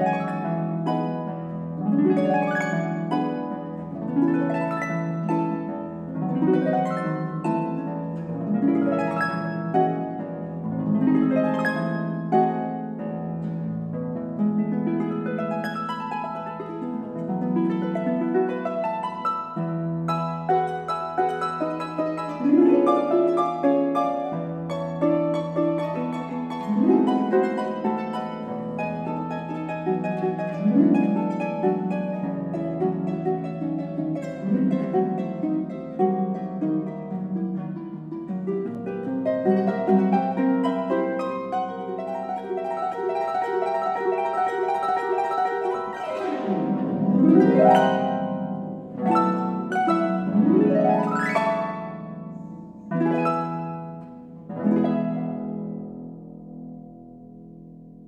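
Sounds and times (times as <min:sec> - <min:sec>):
harp playing: 0:00.0 - 0:58.0.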